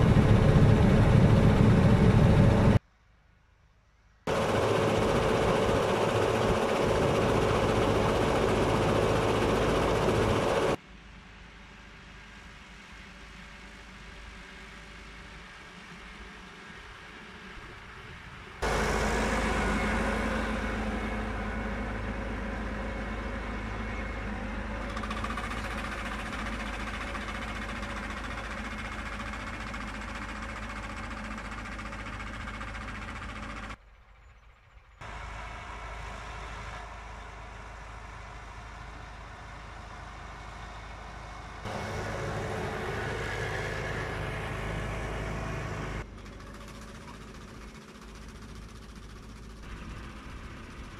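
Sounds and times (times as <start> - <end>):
tractor engine running: 0.0 - 2.8, 4.3 - 10.8, 18.6 - 50.9.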